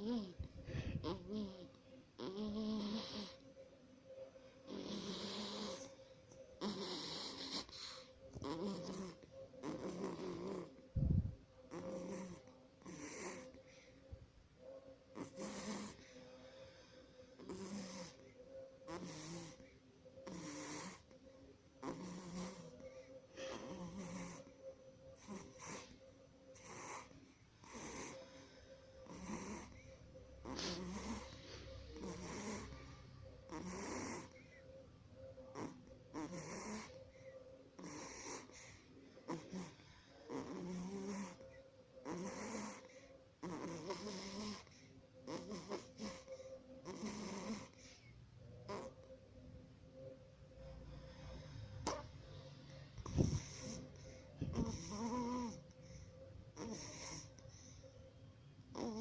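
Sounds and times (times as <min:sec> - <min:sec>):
raspy snoring: 0:00.0 - 0:03.4, 0:04.6 - 0:10.8, 0:11.7 - 0:13.8, 0:15.1 - 0:21.2, 0:21.8 - 0:24.6, 0:25.2 - 0:34.6, 0:35.4 - 0:49.1, 0:50.7 - 0:57.8, 0:58.7 - 0:59.0.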